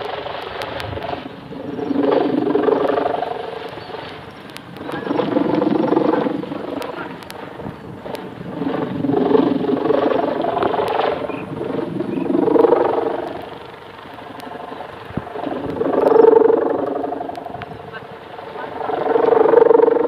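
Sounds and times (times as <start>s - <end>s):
kite hummer buzzing in wind: 0.0s - 20.0s.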